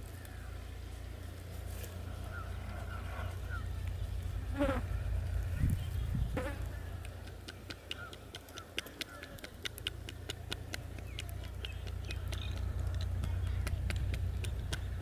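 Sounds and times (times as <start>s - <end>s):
steady low rumble: 0.0s - 7.7s, 10.0s - 15.0s.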